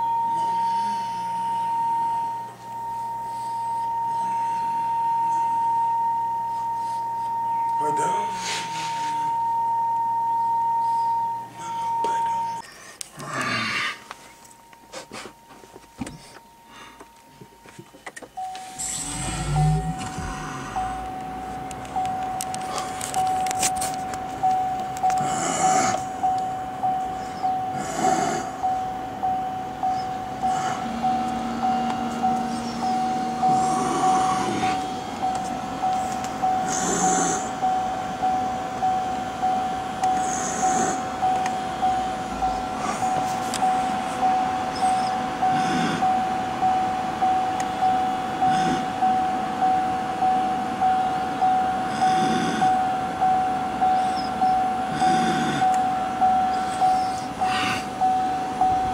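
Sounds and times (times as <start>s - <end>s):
in-car chime dinging: 0.0s - 12.6s, 14.5s - 55.0s, 55.6s - 58.9s.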